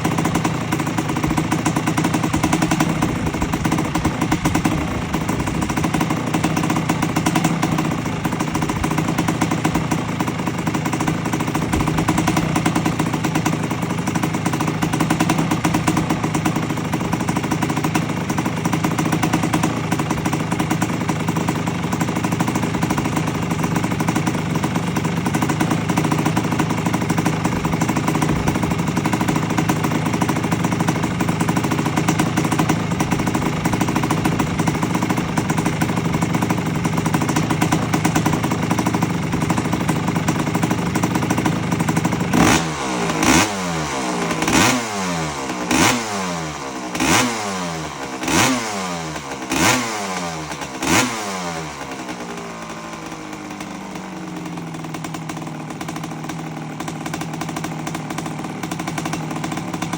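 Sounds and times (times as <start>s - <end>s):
two-stroke engine idling and revving: 0.0s - 59.9s.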